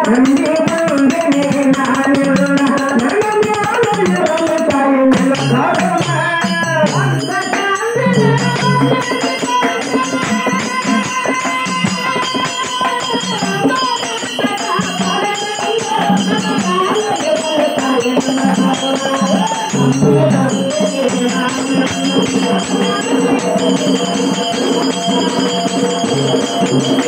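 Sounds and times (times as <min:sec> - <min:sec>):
drum beating: 0:00.0 - 0:27.0
person singing: 0:00.0 - 0:27.0
small hand cymbals jingling: 0:00.0 - 0:27.0.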